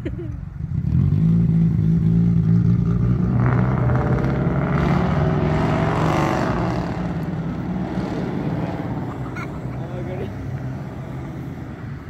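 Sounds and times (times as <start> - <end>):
traffic engine hum: 0.0 - 12.0
vehicle passing close by: 0.6 - 12.0.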